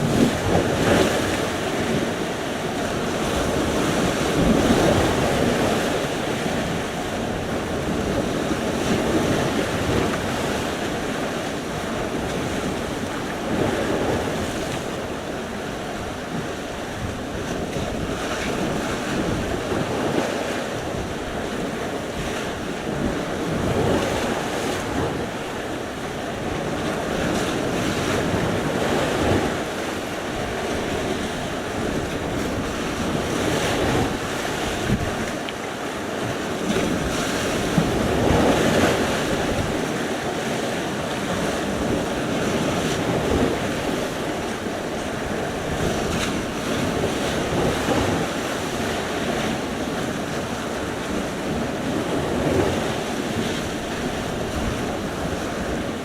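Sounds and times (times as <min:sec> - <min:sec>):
waves breaking on shore: 0:00.0 - 0:56.0
wind buffeting microphone: 0:00.0 - 0:56.0.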